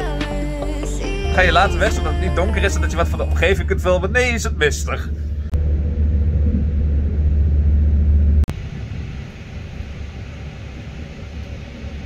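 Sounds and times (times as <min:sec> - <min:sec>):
train carriage running rumble: 0:01.3 - 0:12.0.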